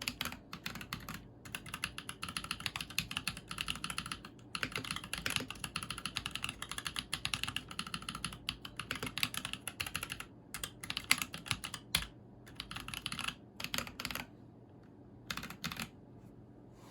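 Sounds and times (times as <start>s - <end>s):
mechanical keyboard typing: 0.0s - 14.3s, 15.3s - 16.0s.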